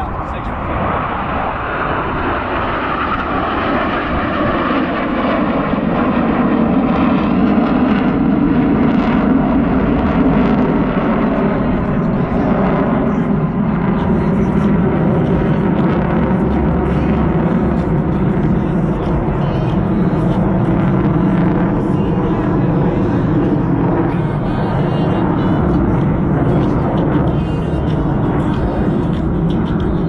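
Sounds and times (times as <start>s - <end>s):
jet aircraft flying past: 0.0s - 30.0s.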